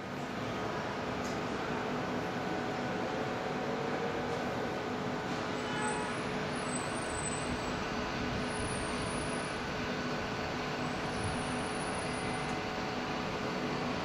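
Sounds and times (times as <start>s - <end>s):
train equipment rushing hum: 0.0s - 14.0s.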